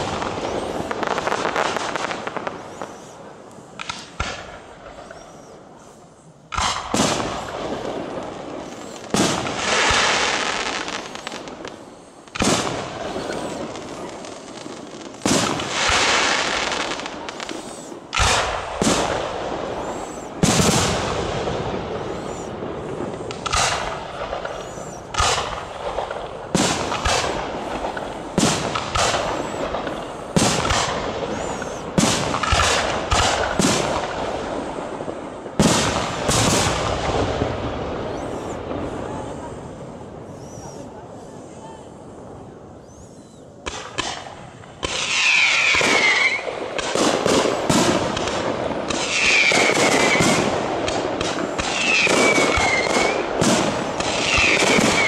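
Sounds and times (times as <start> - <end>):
firework shells bursting: 0.0 - 40.8, 42.8 - 55.0.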